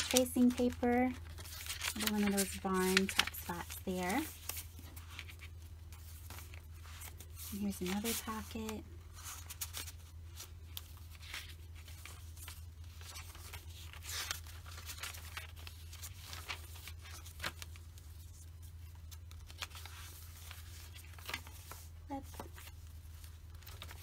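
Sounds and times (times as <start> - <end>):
paper pages rustling: 0.0 - 24.0.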